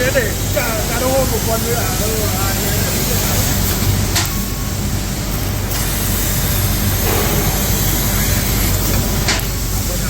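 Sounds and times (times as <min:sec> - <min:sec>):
machinery with electrical hum: 0:00.0 - 0:10.0.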